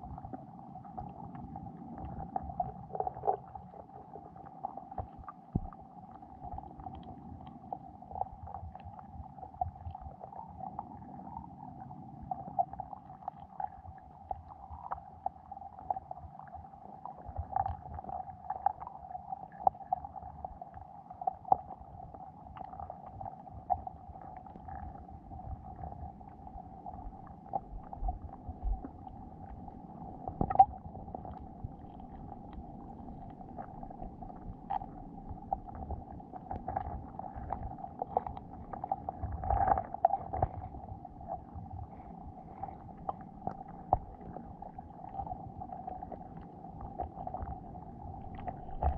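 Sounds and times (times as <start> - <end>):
muffled underwater hum: 0.0 - 48.9.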